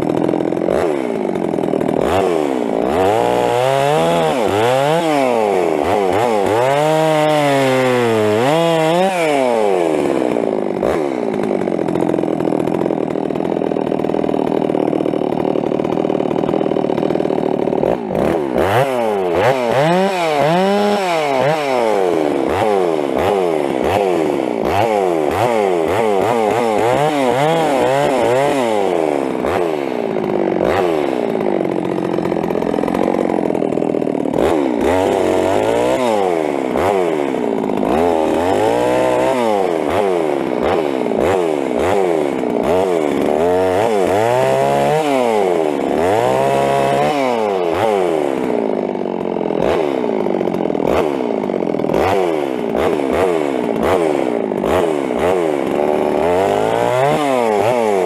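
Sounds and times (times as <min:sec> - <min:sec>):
chainsaw revving while cutting: 0:00.0 - 0:58.0.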